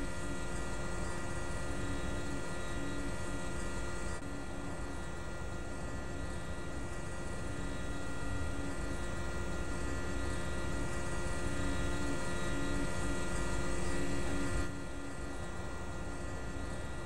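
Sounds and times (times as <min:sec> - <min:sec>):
machine drone with high whine: 0:00.0 - 0:17.0.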